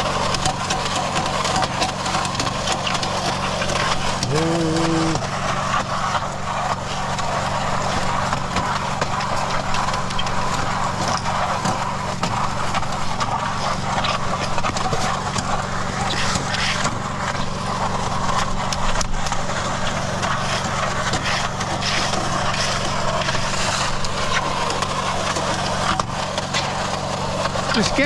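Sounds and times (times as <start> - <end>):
concrete mixer engine hum: 0.0 - 28.0.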